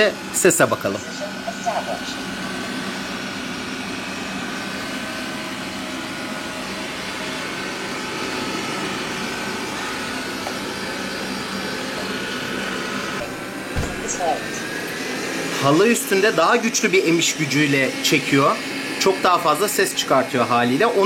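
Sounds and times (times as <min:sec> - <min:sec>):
robot vacuum whirring: 0:00.6 - 0:21.0.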